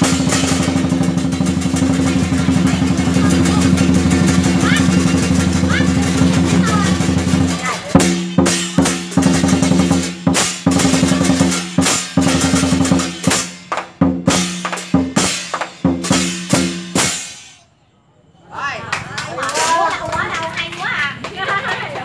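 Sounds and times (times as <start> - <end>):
cymbal crashes: 0.0 - 17.6
drum deep ringing beats: 0.0 - 17.6.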